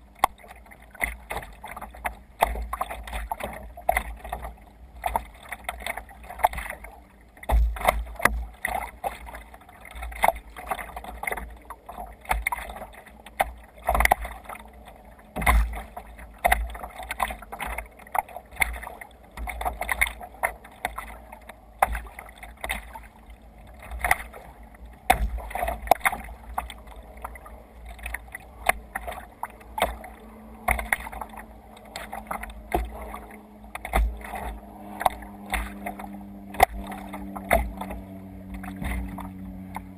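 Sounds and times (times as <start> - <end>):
water splashing against kayak hull: 0.0 - 39.9.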